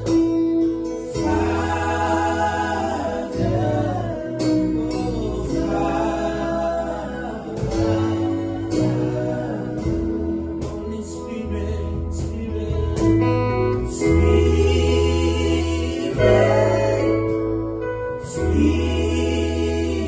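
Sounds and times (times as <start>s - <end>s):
keyboard guitar bass and cajon: 0.0s - 20.0s
voices singing gospel song: 0.0s - 20.0s.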